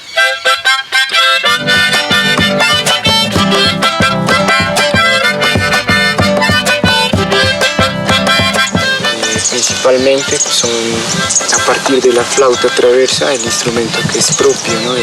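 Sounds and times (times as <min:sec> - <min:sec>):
wind instrument melody: 0:00.0 - 0:15.0
plucked strings: 0:00.4 - 0:15.0
low bass notes: 0:01.5 - 0:15.0.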